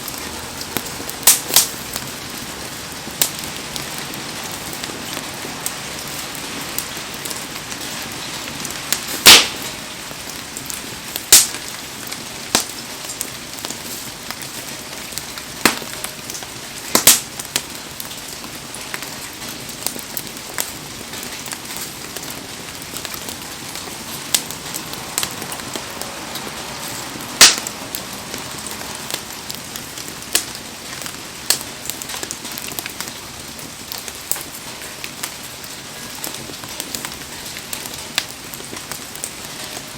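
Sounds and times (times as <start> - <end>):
burning wood popping: 0.0 - 39.9
heavy rain hiss: 0.0 - 39.9.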